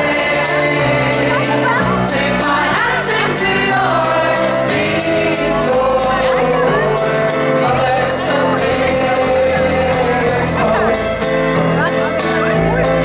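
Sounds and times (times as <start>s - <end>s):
woman singing: 0.0s - 11.2s
drums: 0.0s - 13.0s
mandolin: 0.0s - 13.0s.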